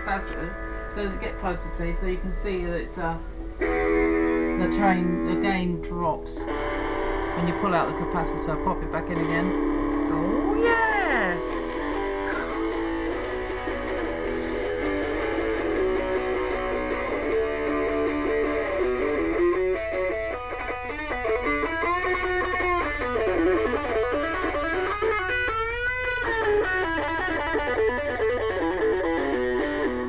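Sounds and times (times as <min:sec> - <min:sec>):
electric guitar riff: 0:00.0 - 0:30.0.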